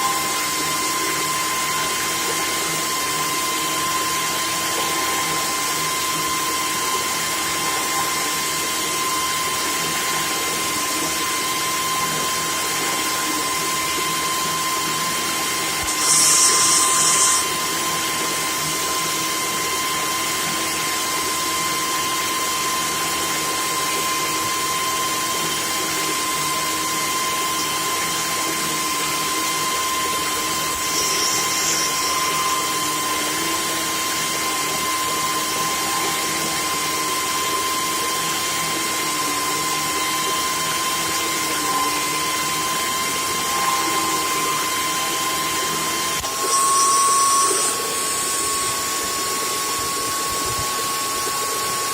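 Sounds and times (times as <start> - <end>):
vacuum cleaner motor whine: 0.0 - 51.9.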